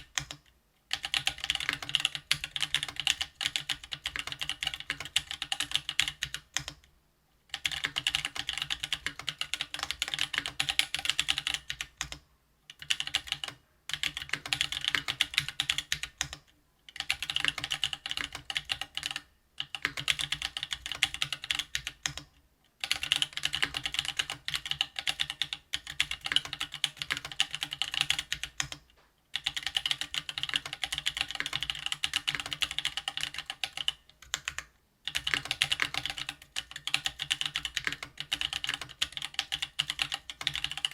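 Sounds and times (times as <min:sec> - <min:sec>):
mechanical keyboard typing: 0:00.0 - 0:06.9, 0:07.5 - 0:40.9.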